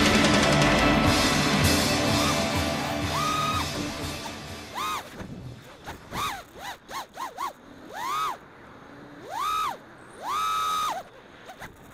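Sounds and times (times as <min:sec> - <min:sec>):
quadcopter motors whining: 0:02.1 - 0:11.9.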